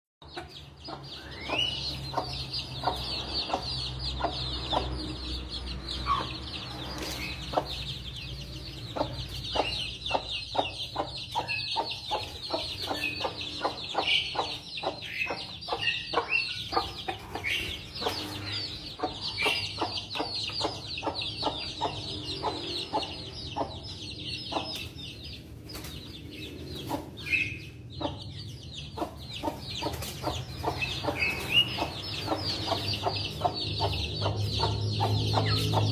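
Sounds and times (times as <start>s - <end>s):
chickens clucking and calling: 0.2s - 35.9s.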